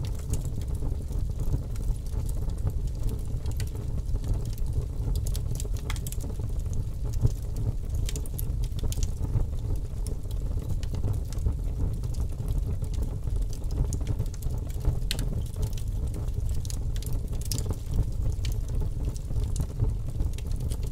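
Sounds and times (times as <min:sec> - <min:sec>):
fire burning with crackles: 0:00.0 - 0:20.9.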